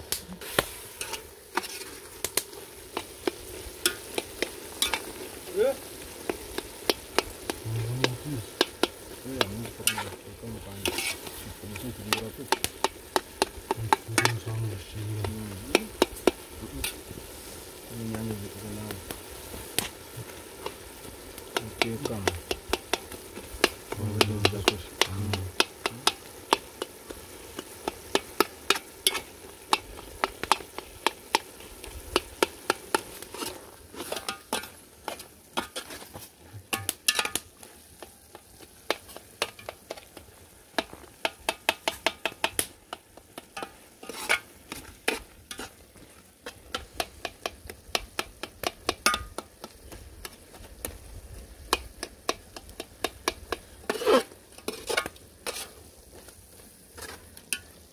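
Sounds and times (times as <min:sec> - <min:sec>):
vegetables sizzling: 0:00.0 - 0:57.9
utensil scraping metal pot: 0:00.4 - 0:18.3, 0:19.0 - 0:38.1, 0:38.7 - 0:50.6, 0:51.7 - 0:55.9, 0:56.9 - 0:57.8.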